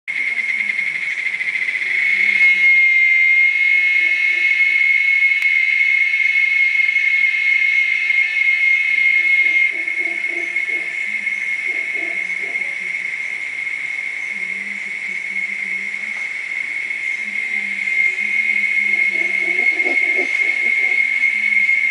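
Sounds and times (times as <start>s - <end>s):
cicadas droning: 0.1s - 21.9s.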